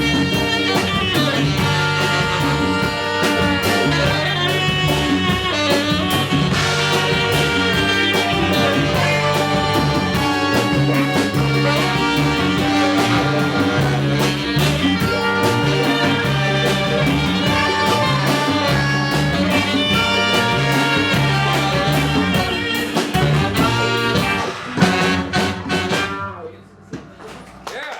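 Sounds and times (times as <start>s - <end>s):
repeating bass figure: 0.0s - 26.1s
horn lines: 0.0s - 27.6s
jazz band playing: 0.0s - 27.7s.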